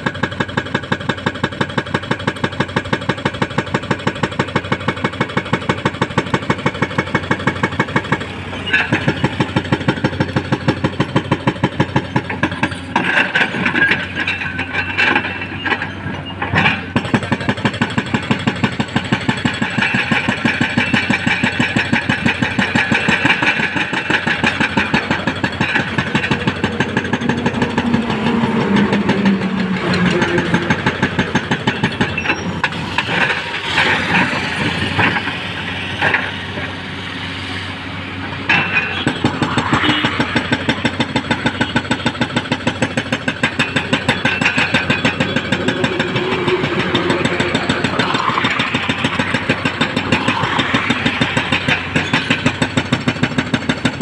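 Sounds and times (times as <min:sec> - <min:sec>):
hydraulic breaker hammering concrete: 0:00.0 - 0:15.6, 0:16.6 - 0:36.7, 0:38.4 - 0:54.0
diesel engine running: 0:00.0 - 0:54.0.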